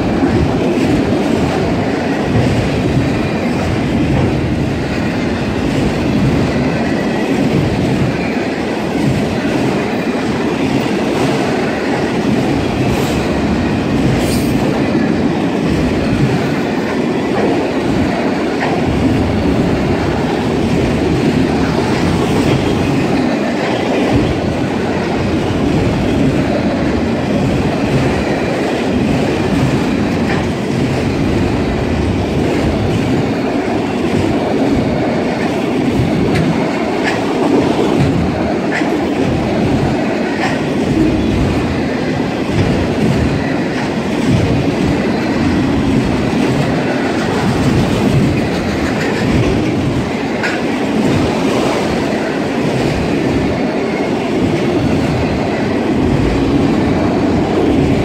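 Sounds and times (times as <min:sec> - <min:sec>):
train wheels running on rail: 0:00.0 - 0:58.0.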